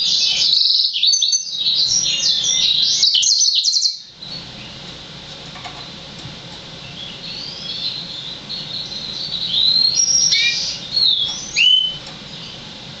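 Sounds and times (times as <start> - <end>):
canary singing: 0.0 - 4.9, 6.8 - 12.7.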